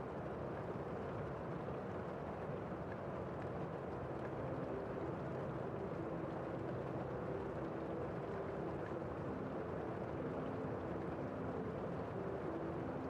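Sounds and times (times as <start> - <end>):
muffled rain outside window: 0.0 - 13.0.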